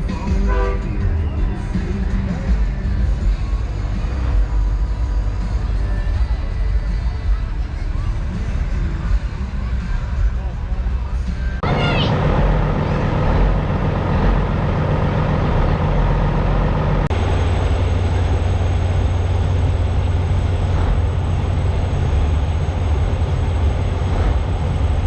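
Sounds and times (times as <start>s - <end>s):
diesel truck engines humming: 0.0s - 25.0s.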